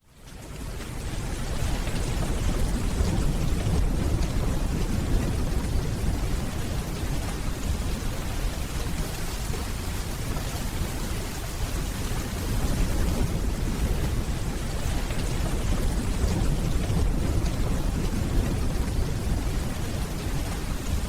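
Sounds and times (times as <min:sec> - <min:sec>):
steady rainfall: 0:00.0 - 0:21.0
distant thunder rumble: 0:01.0 - 0:21.0.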